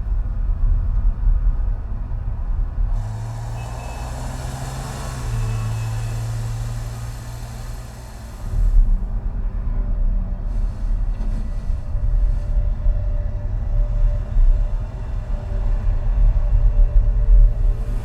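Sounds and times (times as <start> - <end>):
deep low rumble: 0.0 - 18.0
road and traffic noise: 0.0 - 18.0.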